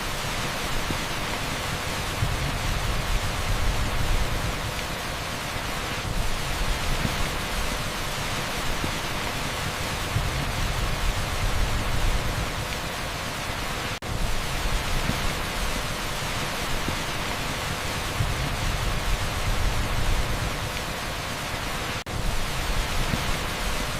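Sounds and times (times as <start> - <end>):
heavy rain on asphalt: 0.0 - 23.9.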